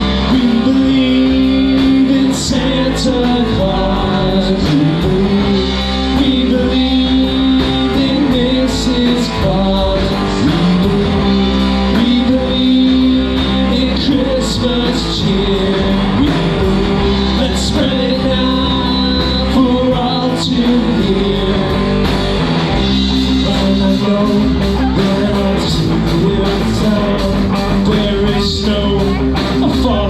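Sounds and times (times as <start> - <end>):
guitar: 0.0 - 30.0
rock band playing: 0.0 - 30.0.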